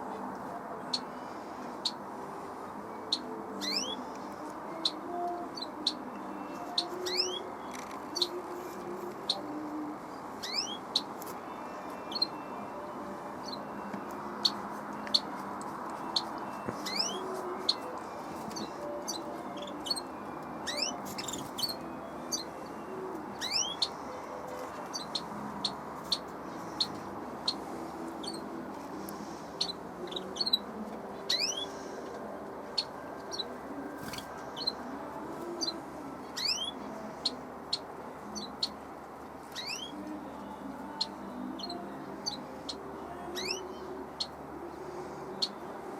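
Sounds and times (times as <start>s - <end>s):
small birds chirping: 3.0s - 31.9s, 32.7s - 38.8s, 39.5s - 45.6s.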